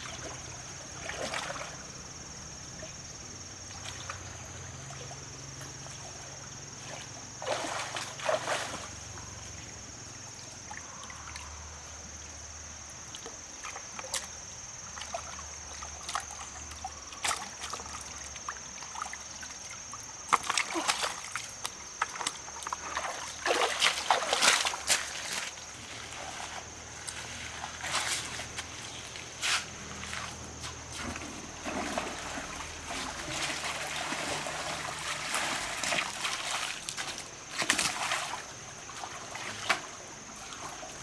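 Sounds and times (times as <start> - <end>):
water splashing and sloshing: 0.0 - 41.0.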